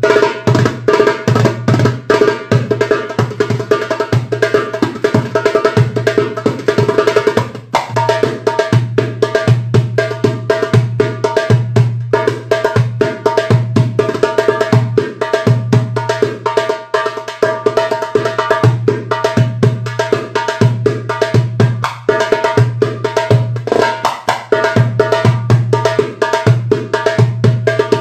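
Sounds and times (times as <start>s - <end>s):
sharp hand drum strokes: 0.0s - 28.0s.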